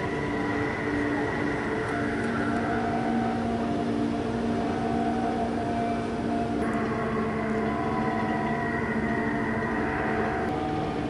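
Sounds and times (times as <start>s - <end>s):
heavy machinery engines droning: 0.0s - 11.0s.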